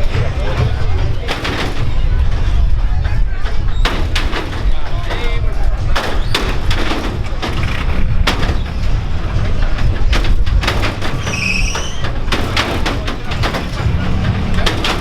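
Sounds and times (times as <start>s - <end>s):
sharp clicks and knocks: 0.0s - 15.0s
vehicles rumbling: 0.0s - 15.0s.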